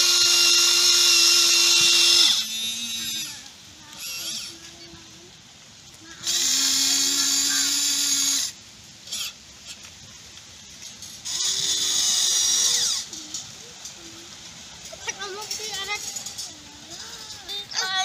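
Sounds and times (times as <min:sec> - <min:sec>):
toy excavator electric motors whining: 0:00.0 - 0:04.8, 0:06.1 - 0:09.9, 0:10.9 - 0:14.0, 0:15.0 - 0:18.0.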